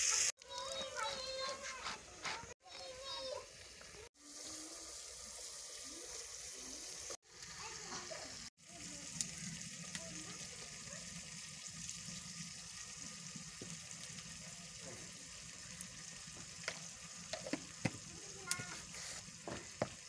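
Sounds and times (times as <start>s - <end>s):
pot of food sizzling: 0.0s - 20.0s.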